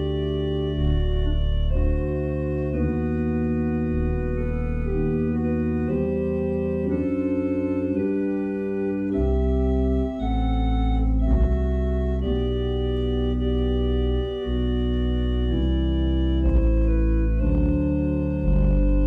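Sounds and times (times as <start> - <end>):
church organ chords: 0.0 - 19.0
deep organ bass line: 0.0 - 19.0.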